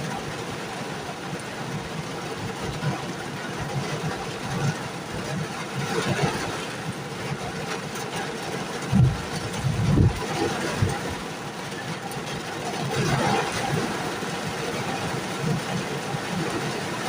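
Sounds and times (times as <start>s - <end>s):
rain falling on a truck: 0.0s - 17.0s.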